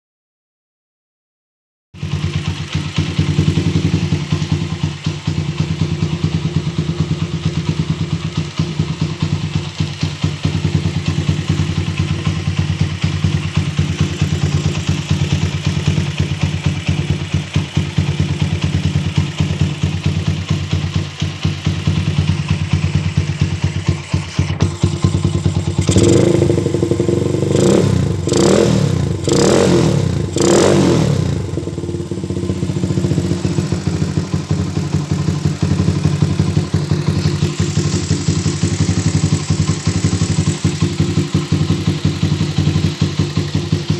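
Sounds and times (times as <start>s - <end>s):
motorcycle engine idling and revving: 2.0s - 43.9s.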